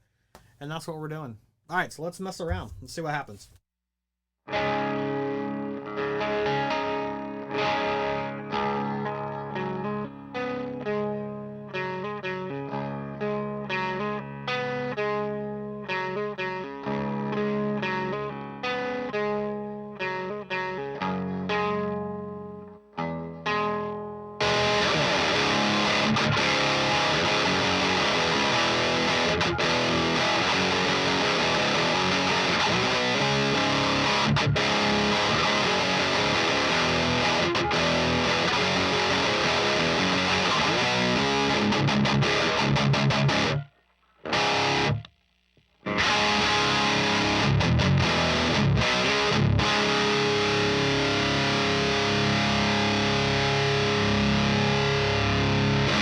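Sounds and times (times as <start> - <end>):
distorted electric guitar riffing: 4.6 - 45.1, 45.7 - 56.0.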